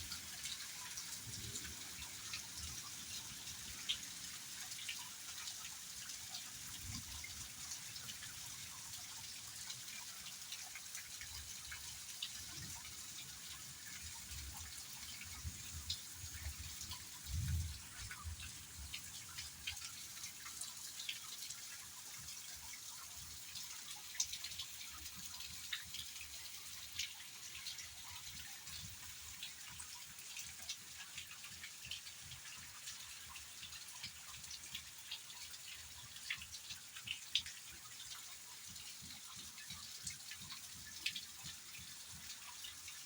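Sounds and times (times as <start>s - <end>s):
rain hiss: 0.0s - 43.0s.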